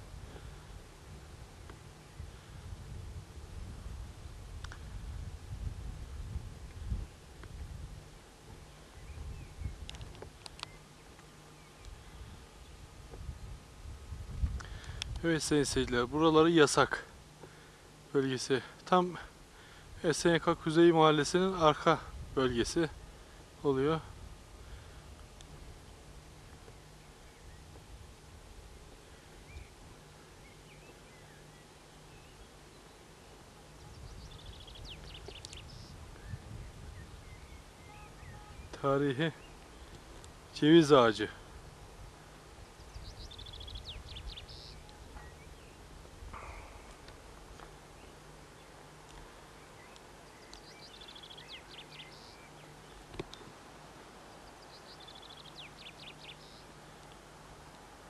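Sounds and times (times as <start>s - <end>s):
steady hiss and hum: 0.0s - 58.0s
songbirds chirping and trilling: 4.2s - 58.0s.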